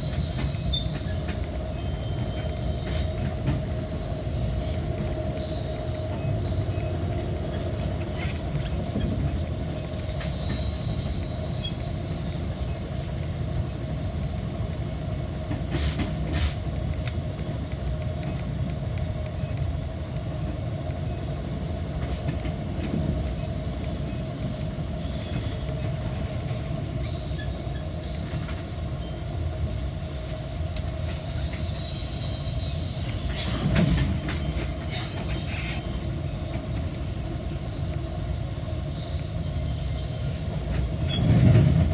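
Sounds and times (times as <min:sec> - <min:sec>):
constant hum: 0:00.0 - 0:41.9
train wheels rumbling on rail: 0:00.0 - 0:41.9.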